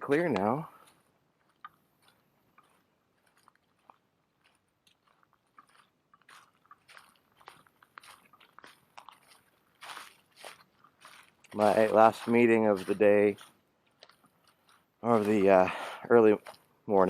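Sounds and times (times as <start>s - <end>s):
faint crunching clicks: 0.0s - 9.8s, 10.4s - 16.7s.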